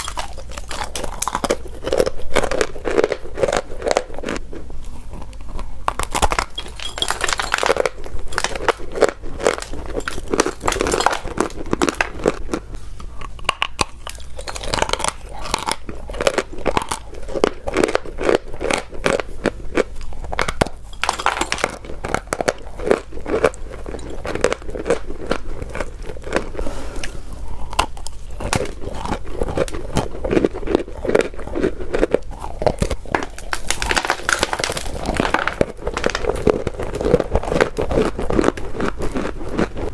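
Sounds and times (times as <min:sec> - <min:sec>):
chewing chalk crunching: 0:00.0 - 0:39.9.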